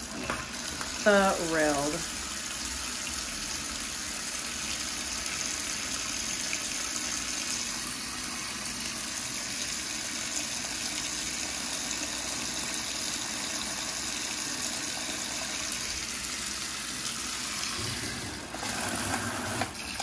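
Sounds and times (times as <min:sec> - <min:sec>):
water spraying into washing tub: 0:00.0 - 0:20.0.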